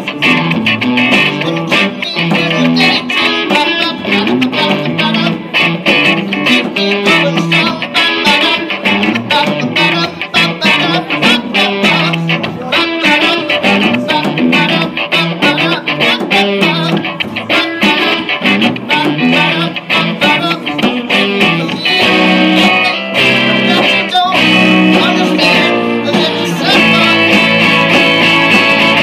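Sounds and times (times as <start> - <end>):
live band music with guitar: 0.0 - 29.0.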